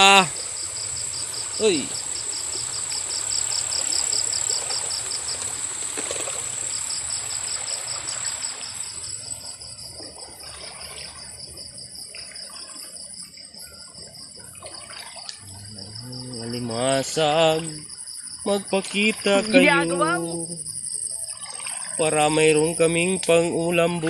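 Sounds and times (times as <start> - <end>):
insect high trill: 0.0 - 24.0
insect pulsed chirp: 0.0 - 24.0
stream water trickling: 0.0 - 24.0.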